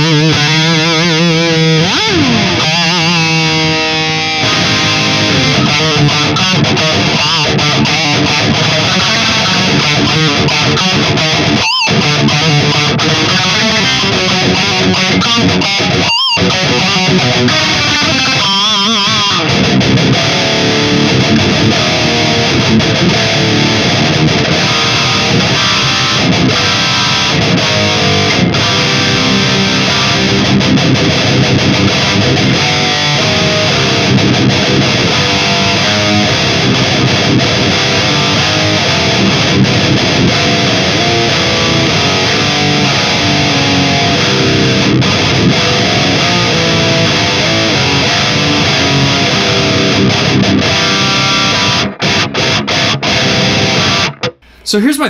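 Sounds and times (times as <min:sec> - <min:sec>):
distorted electric guitar riffs: 0:00.0 - 0:55.0.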